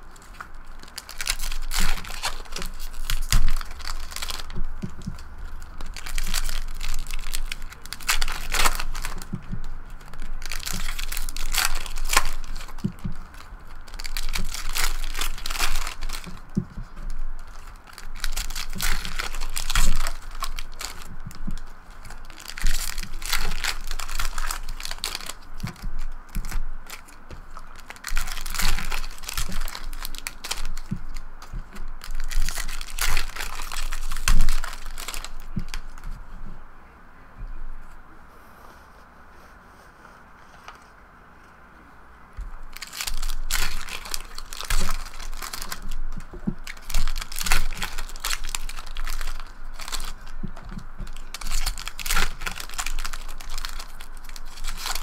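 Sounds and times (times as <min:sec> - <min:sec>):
foil wrappers crinkling and tearing: 0:00.0 - 0:36.2, 0:42.4 - 0:55.0.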